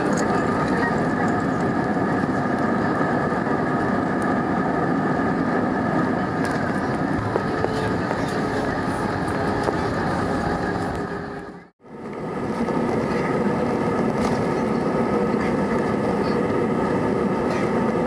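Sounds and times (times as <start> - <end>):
jet engines and airflow in cabin: 0.0 - 18.0.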